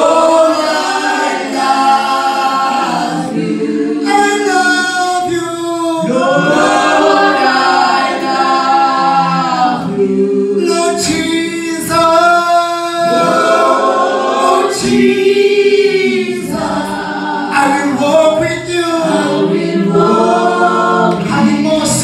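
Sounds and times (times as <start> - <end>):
choir singing a cappella: 0.0 - 22.0.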